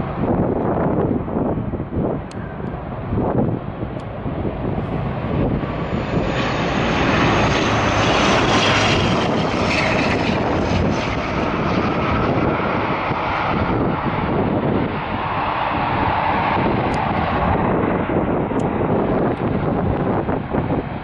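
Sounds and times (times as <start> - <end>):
turboprop airliner passing: 0.0 - 21.0.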